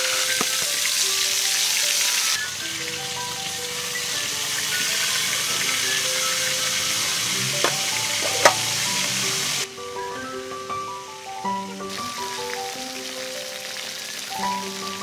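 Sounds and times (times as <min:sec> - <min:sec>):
chicken sizzling in hot oil: 0:00.0 - 0:09.7, 0:10.8 - 0:15.0.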